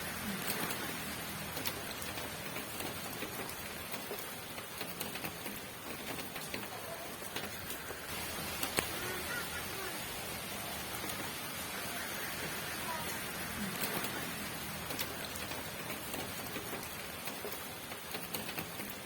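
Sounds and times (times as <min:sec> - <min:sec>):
raindrops tapping: 0:00.0 - 0:19.0
steady rain: 0:00.0 - 0:19.0.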